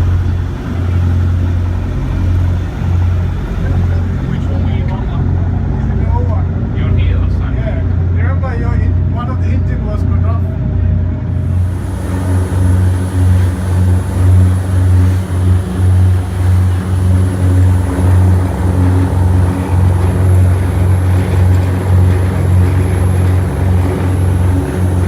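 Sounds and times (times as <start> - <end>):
motor engine droning: 0.0 - 25.0.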